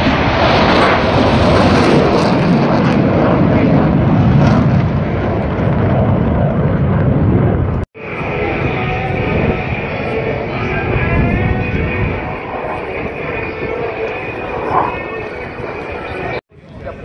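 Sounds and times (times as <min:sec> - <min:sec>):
aircraft flying past: 0:00.0 - 0:17.0.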